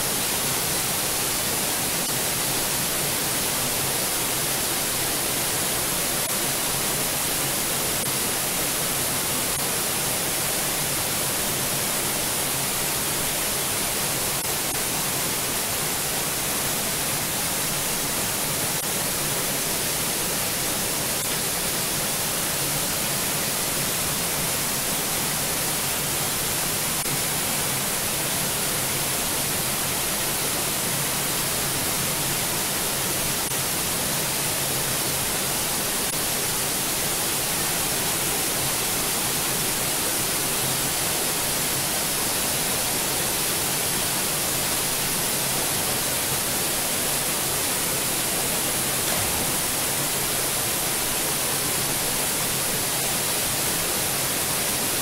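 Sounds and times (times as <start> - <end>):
waterfall rushing into pool: 0.0 - 55.0.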